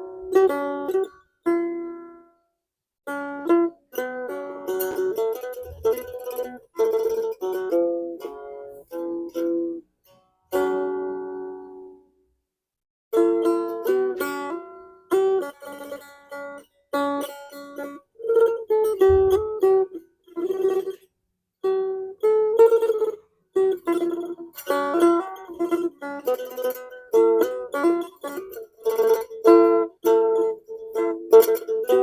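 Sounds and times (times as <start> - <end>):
plucked lute playing: 0.0 - 12.2, 13.1 - 32.0.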